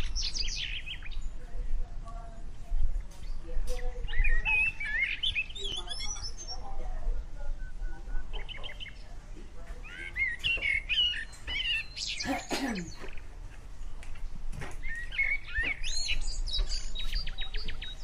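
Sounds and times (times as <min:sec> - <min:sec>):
birds chirping and whistling: 0:00.0 - 0:01.6, 0:03.1 - 0:18.0.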